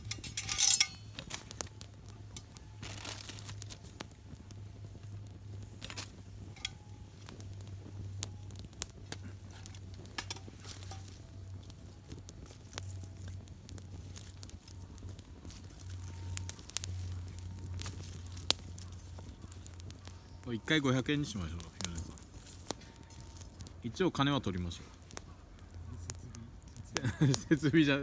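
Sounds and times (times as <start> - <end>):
campfire crackling and popping: 0.0 - 28.0
low steady hum: 0.0 - 28.0.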